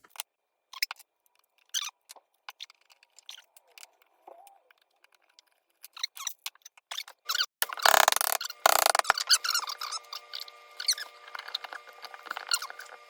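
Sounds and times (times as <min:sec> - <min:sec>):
small clicks and squeaks: 0:00.0 - 0:13.0.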